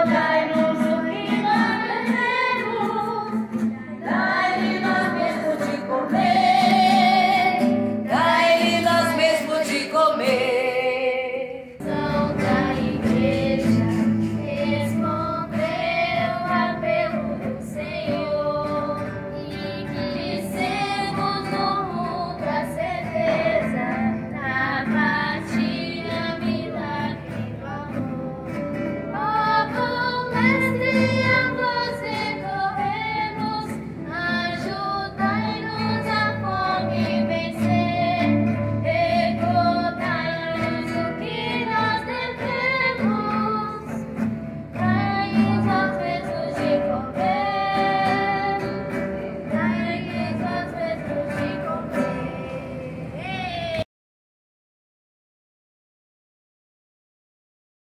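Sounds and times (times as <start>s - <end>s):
girls singing together: 0.0s - 53.5s
strummed acoustic guitars: 0.0s - 53.8s.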